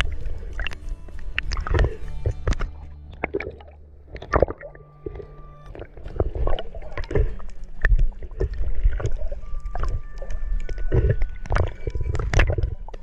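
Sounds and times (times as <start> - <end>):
water splashing and gurgling: 0.0 - 13.0.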